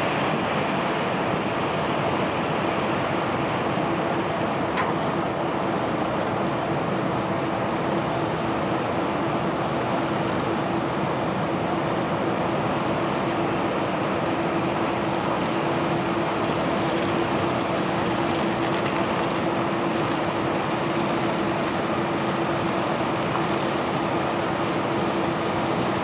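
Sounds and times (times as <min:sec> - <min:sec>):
machinery rumbling with hum: 0:00.0 - 0:26.0.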